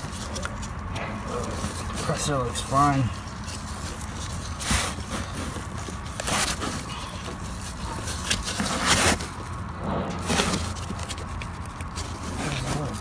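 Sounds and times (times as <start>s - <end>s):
gloved hand scraping metal parts: 0.0s - 13.0s
steady low hum: 0.0s - 13.0s.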